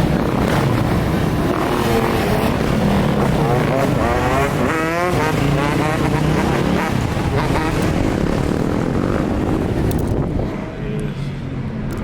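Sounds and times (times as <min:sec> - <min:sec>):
dirt bike engines revving: 0:00.0 - 0:11.4.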